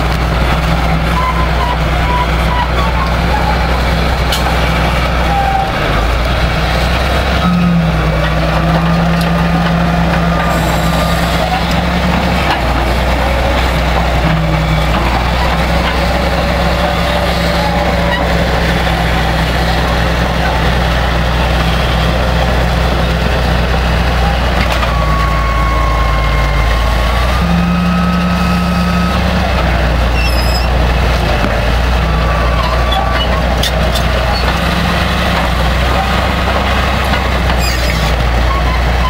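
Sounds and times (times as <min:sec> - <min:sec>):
bulldozer diesel engine: 0:00.0 - 0:39.0.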